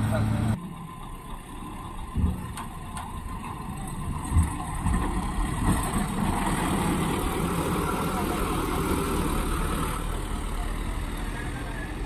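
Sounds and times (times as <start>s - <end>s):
diesel engine pulling a load: 0.0s - 12.0s.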